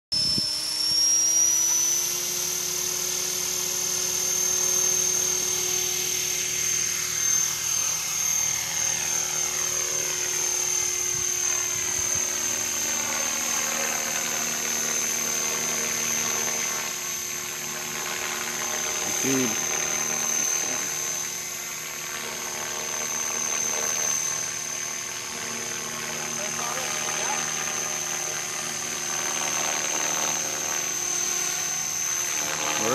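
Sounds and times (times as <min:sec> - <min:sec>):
rc helicopter rotor whine: 0:00.1 - 0:32.9.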